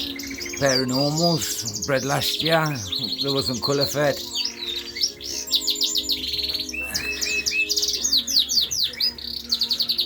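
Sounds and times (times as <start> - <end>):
canaries and finches chirping: 0.0 - 10.0.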